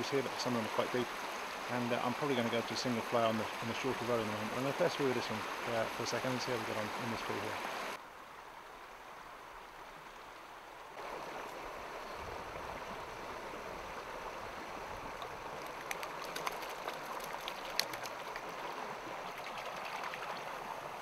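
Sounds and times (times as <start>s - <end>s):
stream running over stones: 0.0s - 21.0s.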